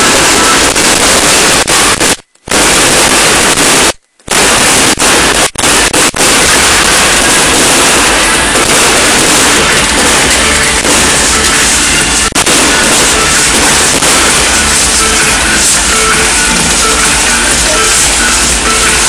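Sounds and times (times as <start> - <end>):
firecrackers crackling: 0.0 - 19.0.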